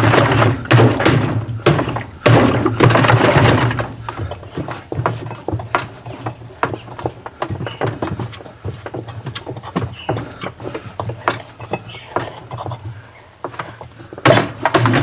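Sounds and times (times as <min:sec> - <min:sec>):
clatter of knocks: 0:00.0 - 0:15.0.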